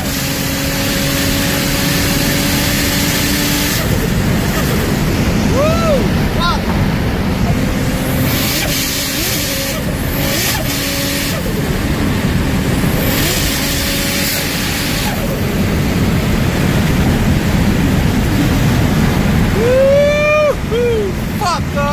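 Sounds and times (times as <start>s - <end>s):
car engine at speed: 0.0s - 21.9s
road and wind noise: 0.0s - 21.9s.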